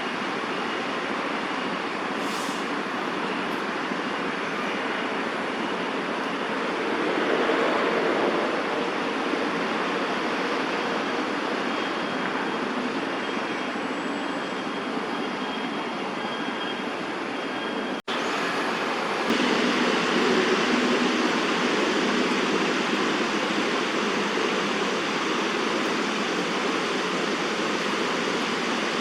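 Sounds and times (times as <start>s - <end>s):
steady rushing outdoor noise: 0.0s - 29.0s.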